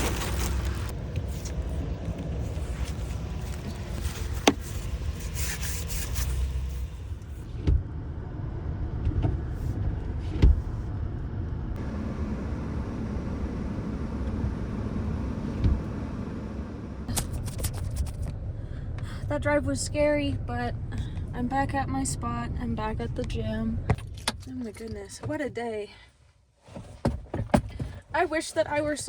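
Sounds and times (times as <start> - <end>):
vehicle engine and road rumble: 0.0 - 29.0.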